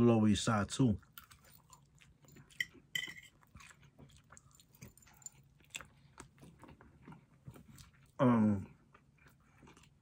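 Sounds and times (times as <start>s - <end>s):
person chewing food: 0.9s - 10.0s.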